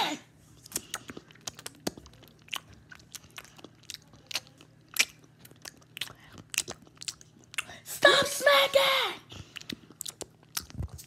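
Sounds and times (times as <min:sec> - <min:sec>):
open-mouthed chewing: 0:00.3 - 0:07.8, 0:09.3 - 0:11.0.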